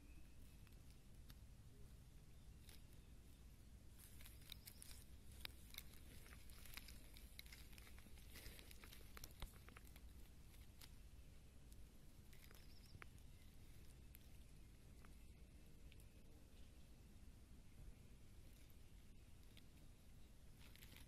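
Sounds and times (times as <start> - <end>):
faint crackles: 0.0 - 21.0
low steady hum: 0.0 - 21.0
soft rustles: 2.6 - 16.9, 17.9 - 21.0.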